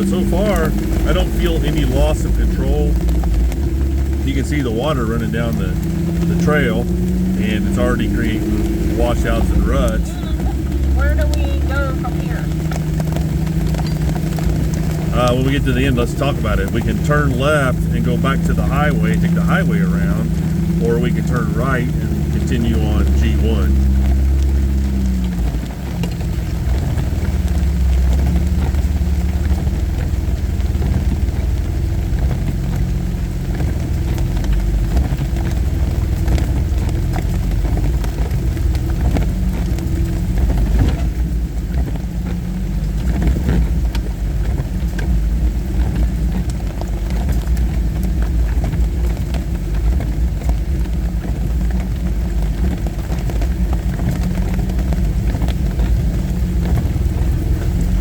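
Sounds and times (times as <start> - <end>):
engine running low: 0.0 - 58.0.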